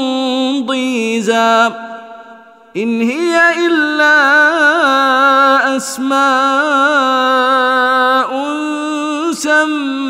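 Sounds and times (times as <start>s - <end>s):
man reciting in long held notes: 0.0s - 10.0s.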